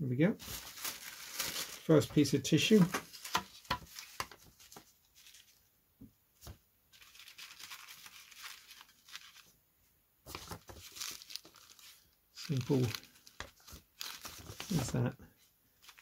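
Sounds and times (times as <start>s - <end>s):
tissue paper rustling: 0.4s - 5.7s, 6.9s - 9.6s, 10.3s - 15.1s, 15.8s - 16.0s.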